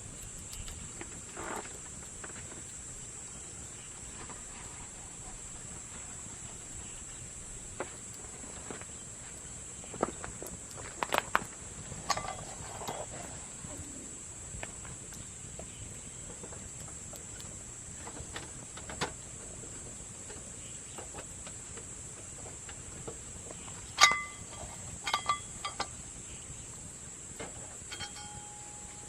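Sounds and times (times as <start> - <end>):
insects chirring: 0.0 - 29.0
wood fire crackling and popping: 0.0 - 29.0.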